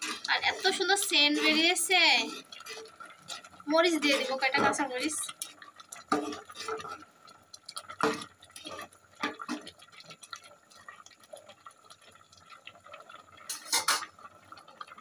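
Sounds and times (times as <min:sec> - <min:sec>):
liquid sloshing in pot: 0:00.0 - 0:15.0.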